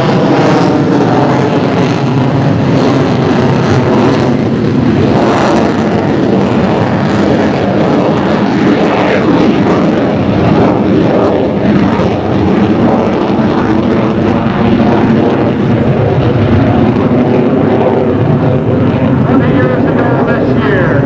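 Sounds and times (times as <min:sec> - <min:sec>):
loud jet engine roar: 0:00.0 - 0:21.0.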